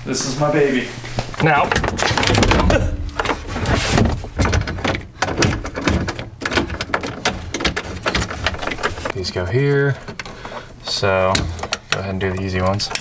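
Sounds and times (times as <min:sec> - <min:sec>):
metal and plastic parts clunking: 0:01.4 - 0:13.0.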